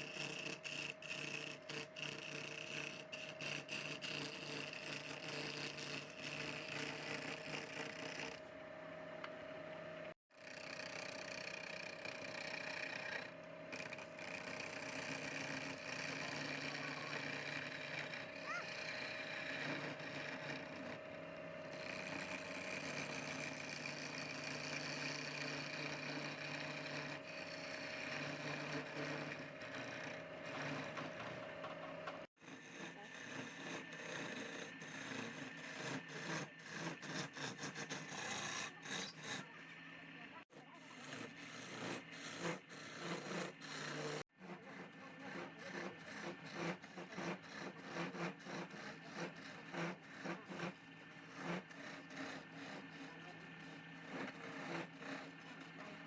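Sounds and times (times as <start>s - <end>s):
turning tool cutting wood: 0.0s - 9.4s, 10.3s - 56.0s
wood lathe motor hum: 0.0s - 56.0s.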